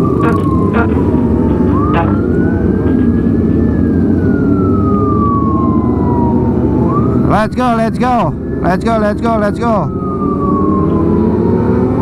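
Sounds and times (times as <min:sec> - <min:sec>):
motorcycle engines running: 0:00.0 - 0:12.0
police siren wailing: 0:00.0 - 0:12.0.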